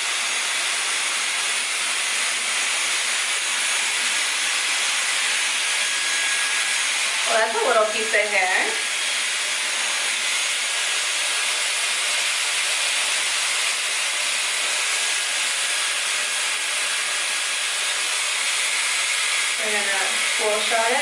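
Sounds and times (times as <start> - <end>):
hair styler fan hissing: 0.0 - 21.0.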